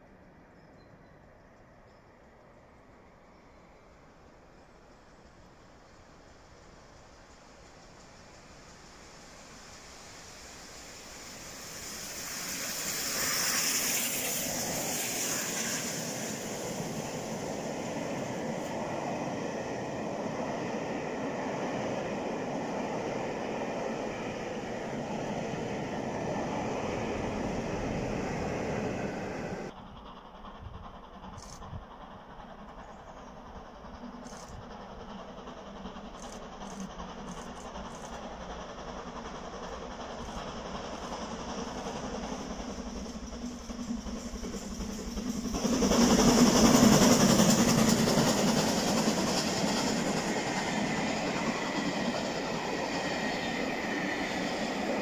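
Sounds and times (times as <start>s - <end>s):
distant steam train approaching: 0.0s - 55.0s
steam locomotive exhaust and hiss: 0.0s - 55.0s.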